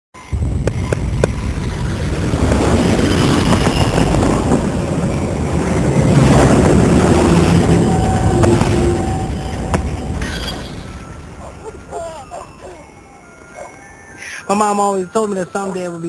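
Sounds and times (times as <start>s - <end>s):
jet airliner passing overhead: 0.2s - 16.0s.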